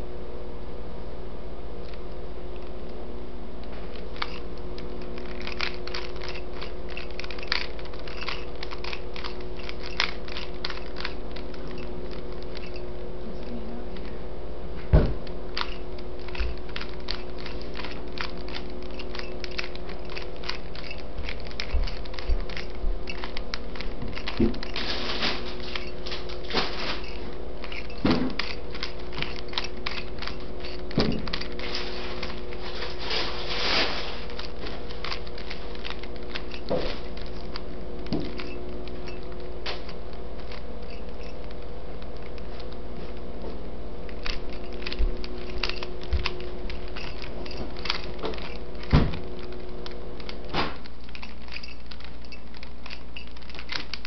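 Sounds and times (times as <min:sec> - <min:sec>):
low hum: 0:00.0 - 0:54.0
puzzle cube plastic clicks: 0:03.6 - 0:12.9, 0:15.2 - 0:32.8, 0:34.0 - 0:42.9, 0:44.0 - 0:54.0.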